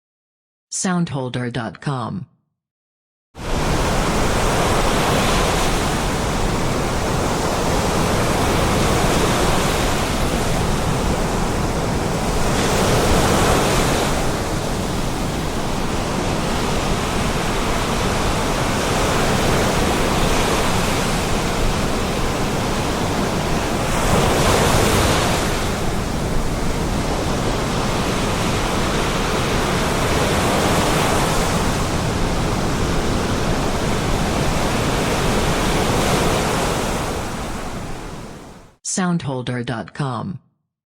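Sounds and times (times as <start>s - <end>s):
storm waves breaking on shore: 3.4s - 38.8s.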